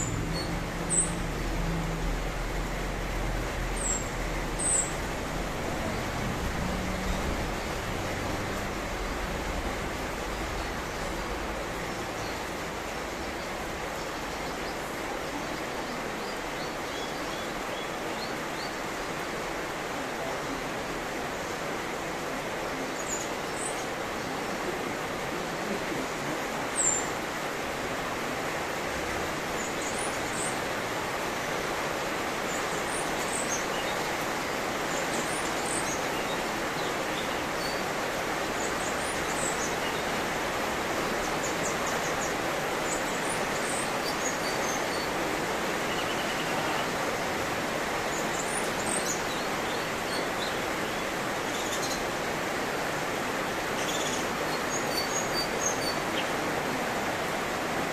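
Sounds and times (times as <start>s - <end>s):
small birds chirping: 0.0s - 57.9s
steady background hiss: 0.0s - 57.9s.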